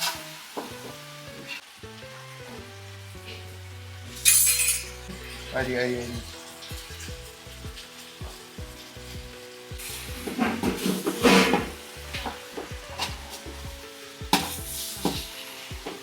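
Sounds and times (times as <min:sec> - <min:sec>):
background music: 0:00.0 - 0:16.0
ingredients stirred in a pan: 0:00.0 - 0:16.0.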